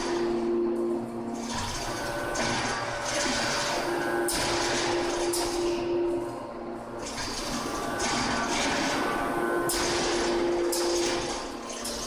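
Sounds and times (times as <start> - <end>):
forging press machinery hum: 0.0 - 12.0.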